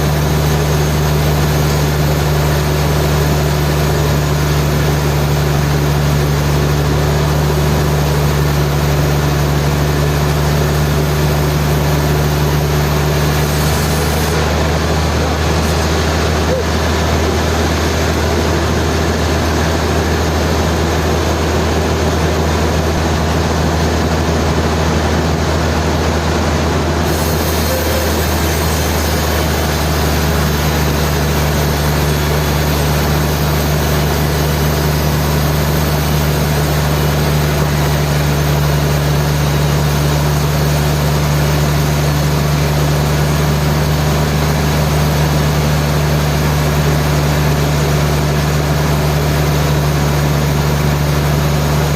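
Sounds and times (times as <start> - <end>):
higher machine hum: 0.0 - 51.9
sawmill machinery drone: 0.0 - 51.9.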